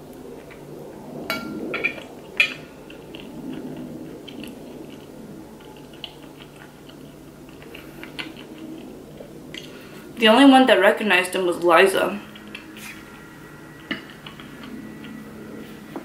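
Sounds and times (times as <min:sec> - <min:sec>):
close-up chewing: 0:00.2 - 0:10.2, 0:12.2 - 0:15.9.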